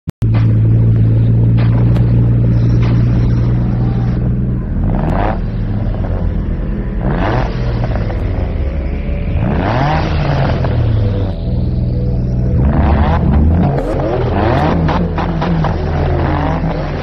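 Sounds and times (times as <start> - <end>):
car engines idling and revving: 0.2 - 17.0.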